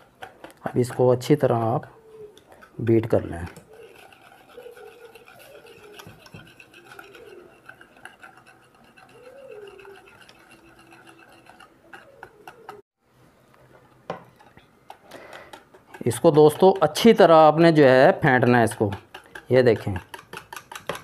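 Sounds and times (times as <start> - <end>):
whisk clicking against bowl: 2.6 - 12.8, 14.3 - 21.0.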